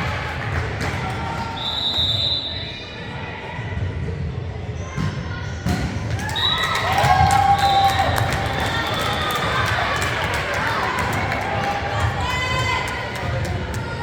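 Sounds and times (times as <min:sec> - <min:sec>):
crowd and hall rumble: 0:00.0 - 0:14.0.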